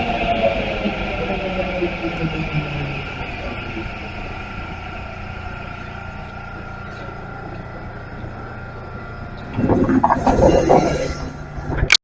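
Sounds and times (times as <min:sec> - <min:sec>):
electric train humming: 0:00.0 - 0:12.0
loud rough noise: 0:00.0 - 0:12.0.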